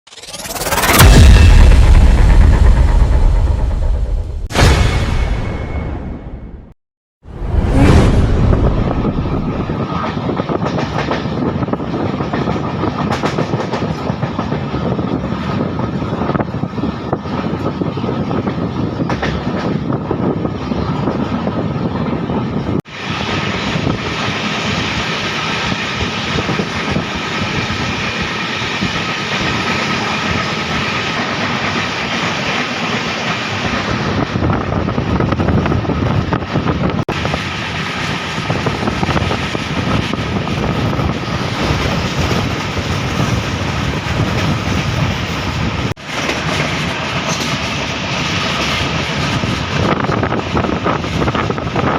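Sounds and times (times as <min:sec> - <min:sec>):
train wheels on rails: 0:09.0 - 0:51.9.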